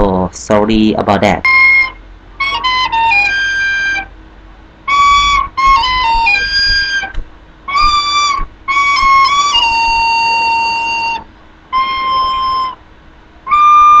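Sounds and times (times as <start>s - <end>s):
solo flute-like wind instrument: 1.4s - 4.1s, 4.9s - 12.8s, 13.4s - 14.0s.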